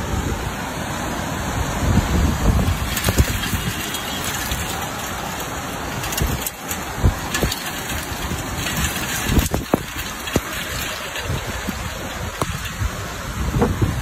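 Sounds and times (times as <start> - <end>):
rain falling on street and cars: 0.0 - 14.0.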